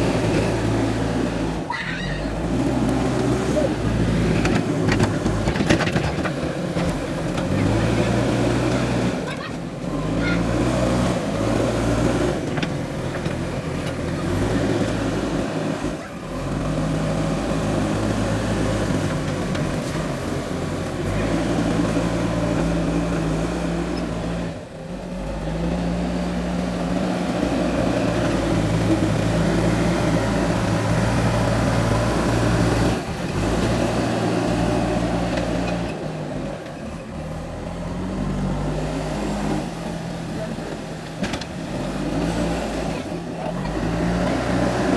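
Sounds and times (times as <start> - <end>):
diesel engine under load: 0.0 - 44.9.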